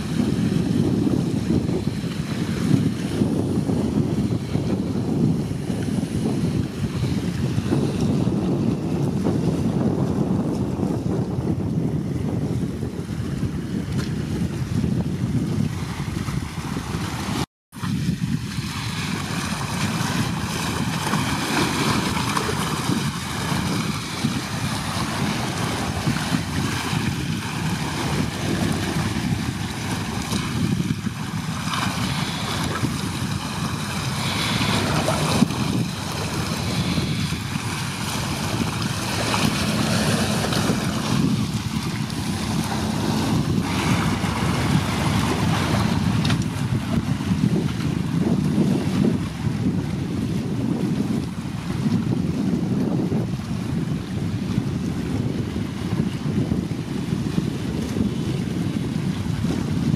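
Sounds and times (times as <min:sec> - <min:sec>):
choppy sea water: 0:00.0 - 0:59.9
wind buffeting microphone: 0:00.0 - 0:59.9.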